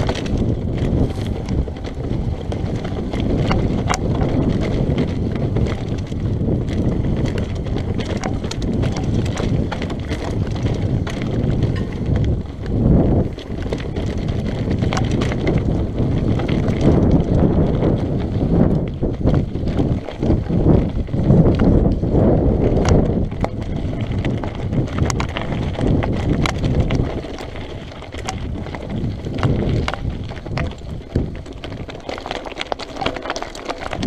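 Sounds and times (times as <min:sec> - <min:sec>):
bike rattling: 0:00.0 - 0:34.0
bike tyres crunching over stones: 0:00.0 - 0:34.0
wind on microphone: 0:00.0 - 0:34.0.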